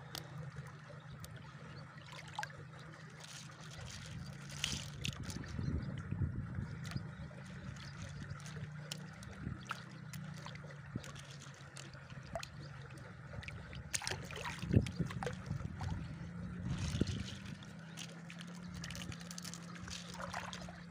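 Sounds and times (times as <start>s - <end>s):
low hum: 0.0s - 20.9s
hands splashing in water: 2.1s - 5.6s, 6.8s - 16.0s, 16.6s - 20.9s.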